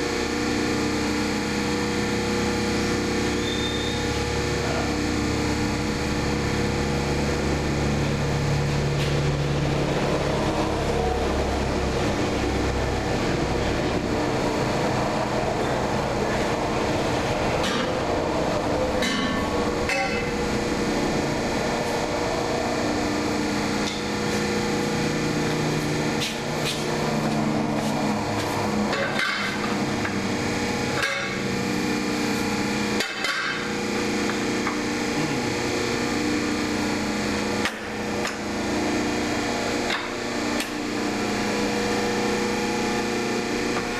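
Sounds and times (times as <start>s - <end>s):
electric pump motor humming: 0.0s - 43.9s.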